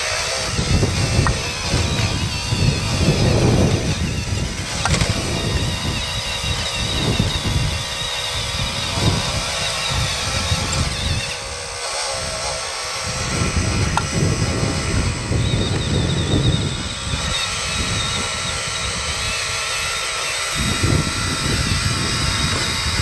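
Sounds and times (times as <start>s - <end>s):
hydraulic pump whine: 0.0s - 23.0s
wind buffeting microphone: 0.0s - 23.0s.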